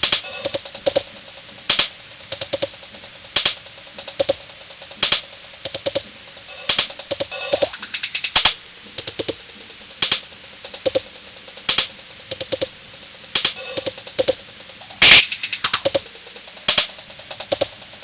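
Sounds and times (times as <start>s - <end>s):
drum machine beat: 0.0s - 18.0s.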